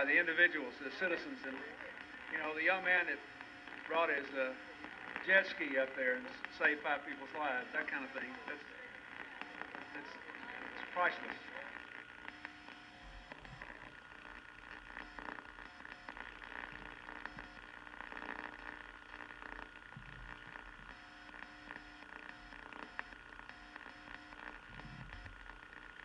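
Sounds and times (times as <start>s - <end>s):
faint hiss and hum: 0.0s - 26.0s
small crackles: 0.0s - 26.0s.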